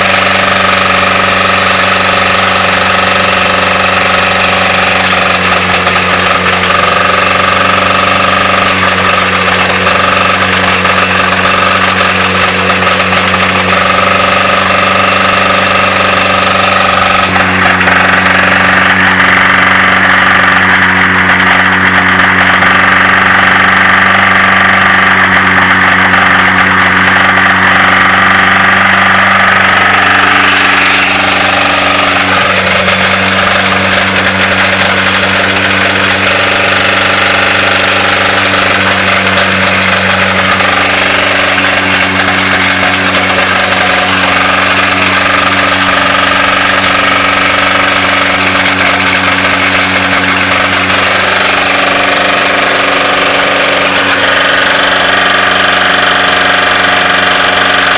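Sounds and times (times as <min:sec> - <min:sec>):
engine revving with rod knock: 0:00.0 - 0:57.9.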